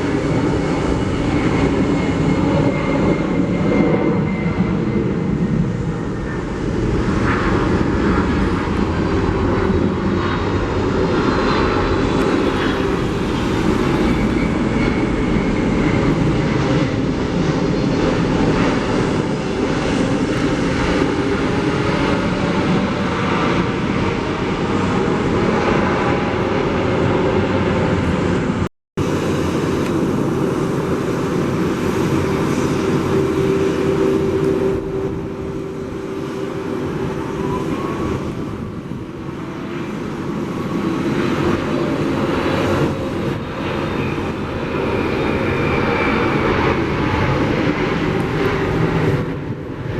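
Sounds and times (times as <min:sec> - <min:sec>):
jet engine rumble: 0:00.0 - 0:49.9.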